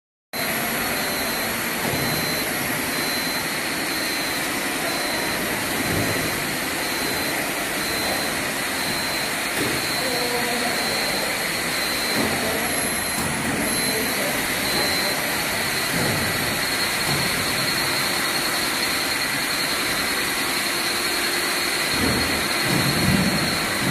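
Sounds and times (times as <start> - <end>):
machine drive running: 0.4 - 23.9.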